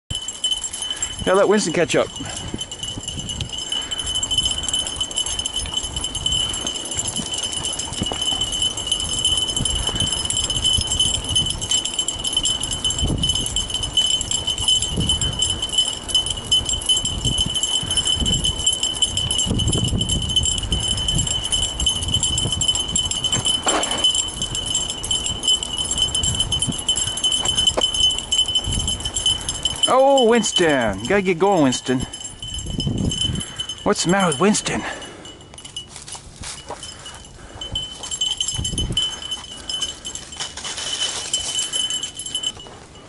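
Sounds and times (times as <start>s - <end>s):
wind buffeting microphone: 0.1s - 43.0s.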